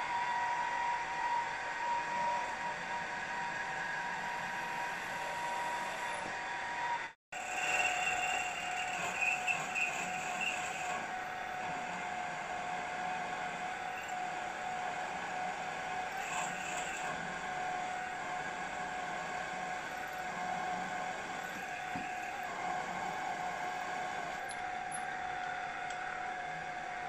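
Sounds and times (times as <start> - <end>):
pillar drill whining: 0.0 - 27.0.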